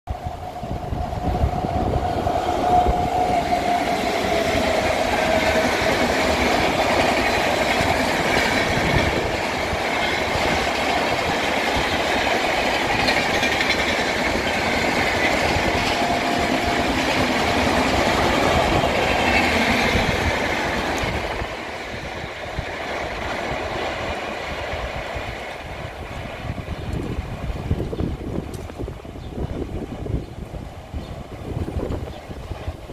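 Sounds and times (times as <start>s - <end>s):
train wheels rumbling on rails: 0.1s - 32.9s.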